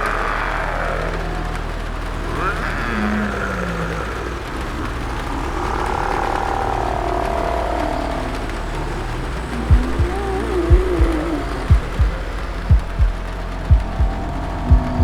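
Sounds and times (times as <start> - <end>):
zombie moans and groans: 0.0 - 15.0.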